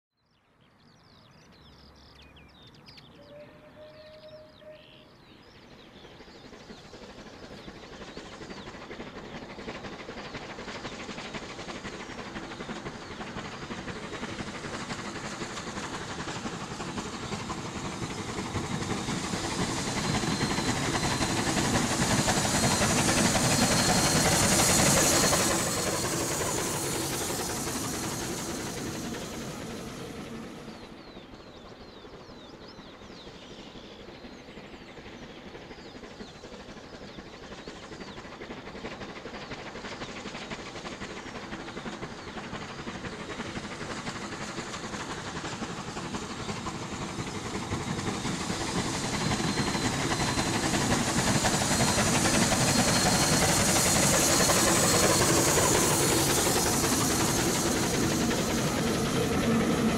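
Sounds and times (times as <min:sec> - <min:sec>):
steam locomotive passing: 0:01.1 - 0:59.9.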